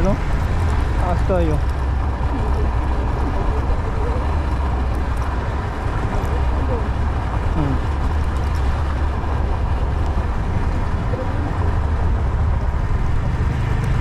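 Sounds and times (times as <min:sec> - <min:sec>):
motorcycle engine running: 0:00.0 - 0:14.0
road noise: 0:00.0 - 0:14.0
wind noise: 0:00.0 - 0:14.0.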